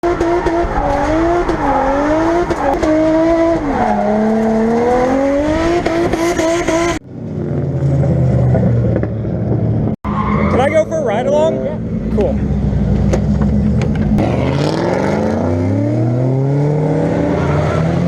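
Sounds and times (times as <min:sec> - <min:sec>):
car engine at high revs: 0:00.0 - 0:09.9, 0:11.3 - 0:18.0.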